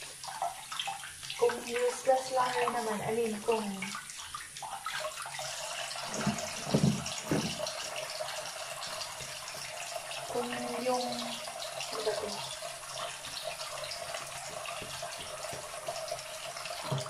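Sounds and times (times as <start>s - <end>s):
water running from faucet: 0.0s - 17.0s.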